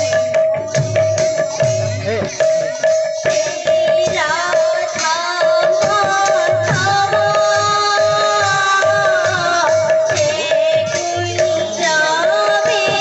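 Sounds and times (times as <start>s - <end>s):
person singing into a microphone: 1.4s - 13.0s.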